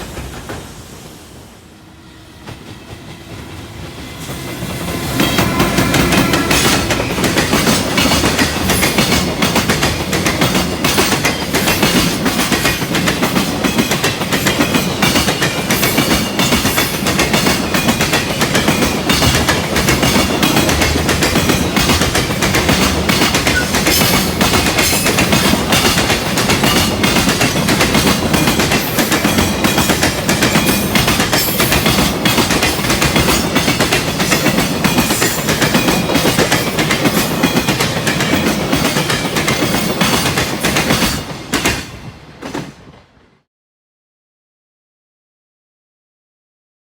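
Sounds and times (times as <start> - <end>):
train wheels clattering: 2.3 - 43.1.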